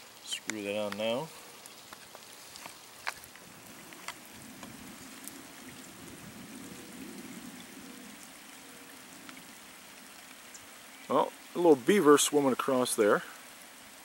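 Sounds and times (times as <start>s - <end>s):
light rain hissing: 0.0s - 14.0s
raindrops ticking: 0.0s - 14.0s.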